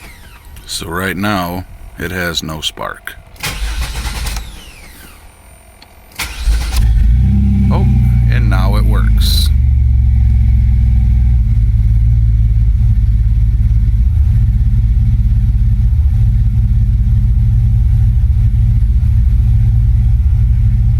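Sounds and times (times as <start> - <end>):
engine idling: 0.0 - 20.9.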